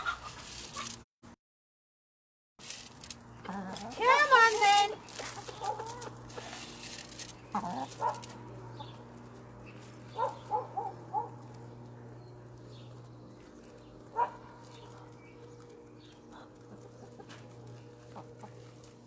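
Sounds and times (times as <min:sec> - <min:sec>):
hens clucking: 0:00.0 - 0:01.0, 0:03.3 - 0:19.0.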